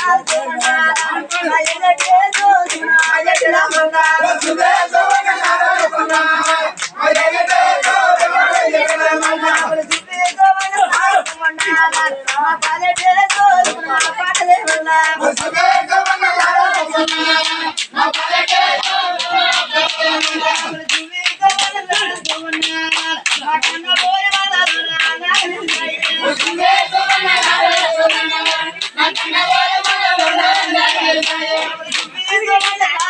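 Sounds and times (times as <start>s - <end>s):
group hand-clapping: 0.0s - 33.0s
men singing folk song: 0.0s - 33.0s.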